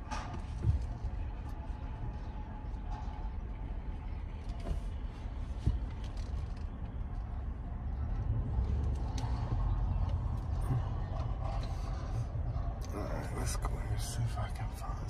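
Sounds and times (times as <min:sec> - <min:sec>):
car engine rumble in cabin: 0:00.0 - 0:15.0.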